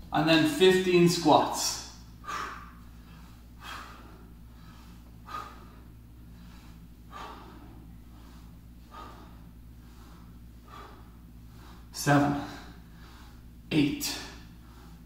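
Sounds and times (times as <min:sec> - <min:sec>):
man breathing hard: 0:01.8 - 0:15.0.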